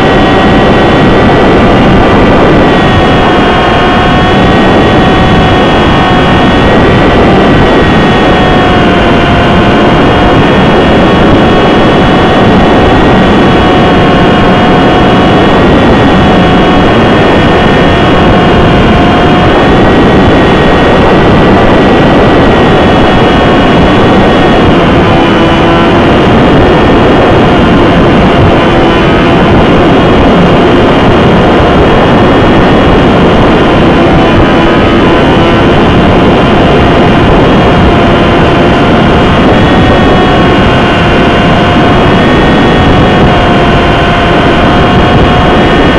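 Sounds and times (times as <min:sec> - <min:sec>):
electric motor and propeller whining: 0:00.0 - 0:45.9
wind noise on microphone: 0:00.0 - 0:45.9.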